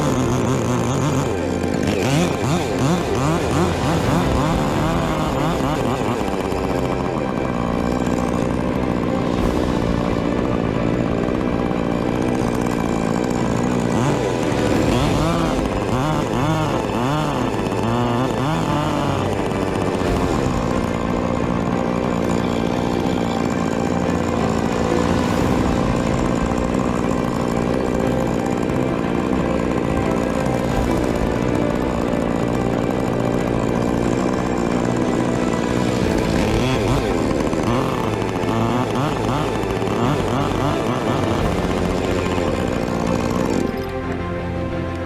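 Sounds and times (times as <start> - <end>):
chainsaw engine revving: 0.0 - 45.0.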